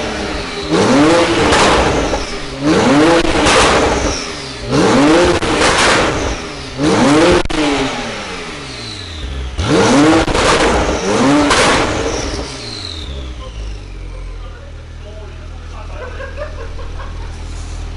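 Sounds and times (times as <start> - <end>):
car engine revving: 0.0 - 15.7
exhaust crack: 0.0 - 17.9.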